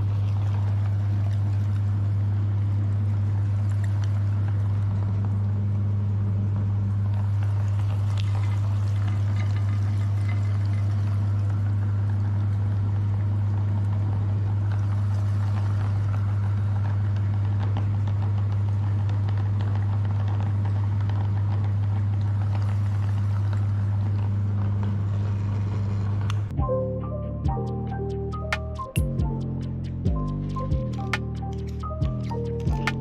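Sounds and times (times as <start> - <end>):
jelly squelching through grinder: 0.0 - 26.5.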